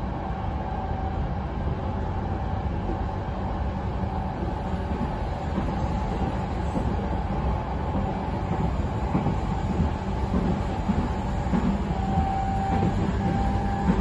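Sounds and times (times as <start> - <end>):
faint steady whine: 0.0 - 14.0
train wheels rumbling on rails: 0.0 - 14.0.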